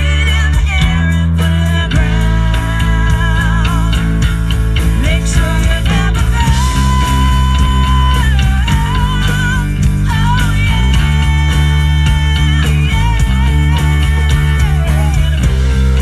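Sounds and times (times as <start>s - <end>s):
bass: 0.0s - 16.0s
drums: 0.0s - 16.0s.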